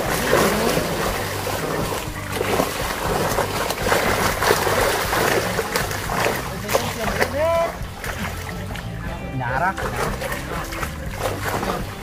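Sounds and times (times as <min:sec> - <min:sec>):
fish thrashing and splashing: 0:00.0 - 0:12.0
water churning: 0:00.0 - 0:12.0.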